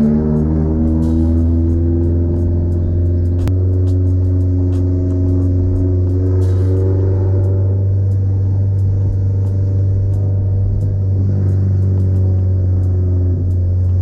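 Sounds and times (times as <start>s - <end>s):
car engine droning while cruising: 0.0s - 14.0s.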